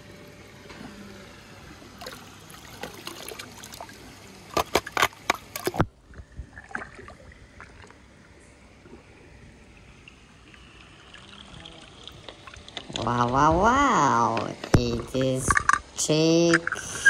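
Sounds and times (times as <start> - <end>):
pool water sloshing and splashing: 0.0 - 15.8.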